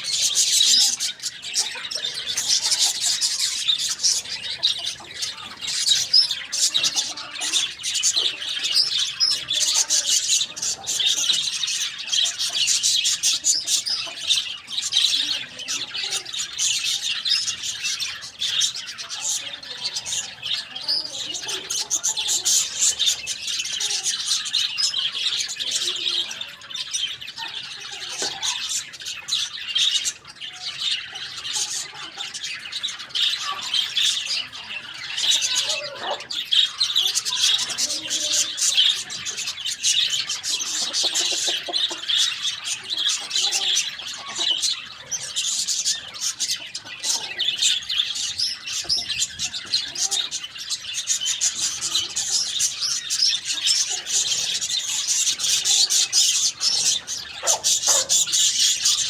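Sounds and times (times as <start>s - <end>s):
many birds chirping: 0.0s - 59.0s.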